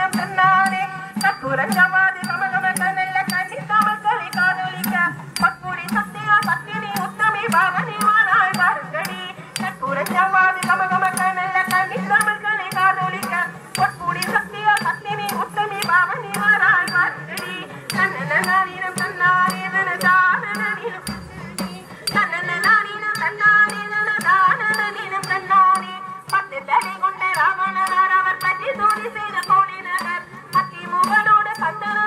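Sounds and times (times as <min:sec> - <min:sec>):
drum: 0:00.0 - 0:32.0
person singing melody: 0:00.0 - 0:32.0.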